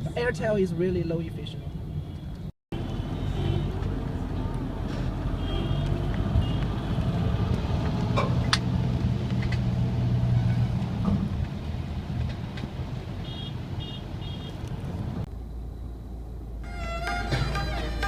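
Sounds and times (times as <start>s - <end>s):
vehicle engine humming: 1.6s - 18.0s.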